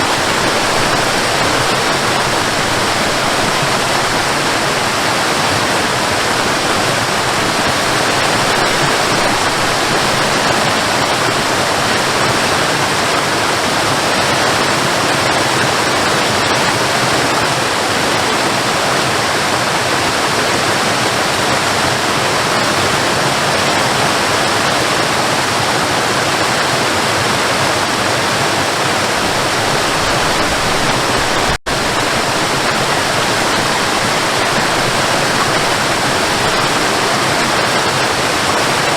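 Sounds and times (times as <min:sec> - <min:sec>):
waterfall splashing: 0:00.0 - 0:38.9.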